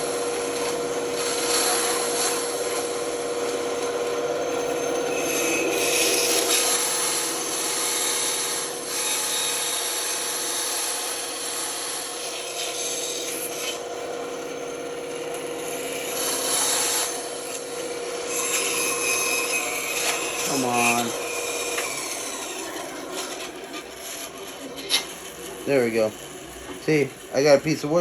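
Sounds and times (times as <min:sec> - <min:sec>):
band saw cutting wood: 0:00.0 - 0:28.0.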